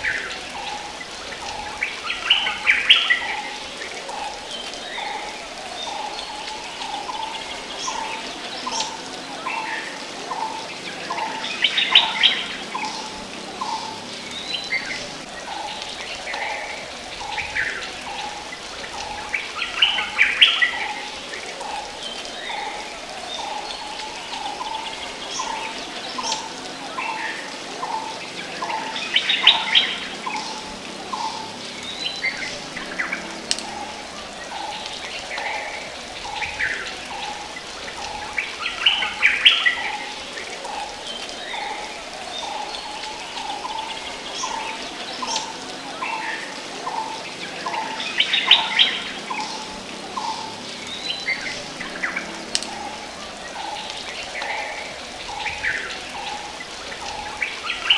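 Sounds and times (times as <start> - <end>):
high chattering bird calls: 0.0 - 57.9.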